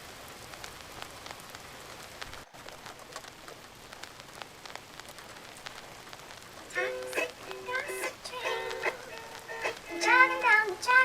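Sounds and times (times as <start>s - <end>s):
rain hiss: 0.0s - 11.0s
vinyl ticks and crackles: 0.0s - 11.0s.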